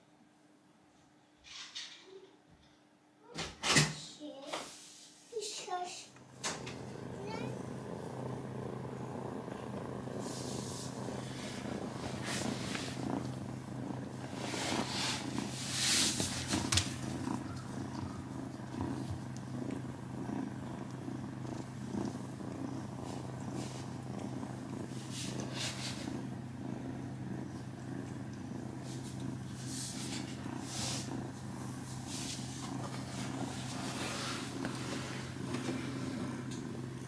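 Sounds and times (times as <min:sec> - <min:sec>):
soft rustles of fur or bedding: 0:04.2 - 0:37.0
cats purring: 0:05.4 - 0:37.0.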